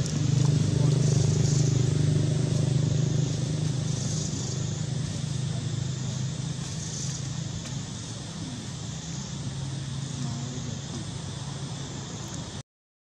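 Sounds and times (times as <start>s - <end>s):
vehicle engine humming: 0.0s - 12.6s.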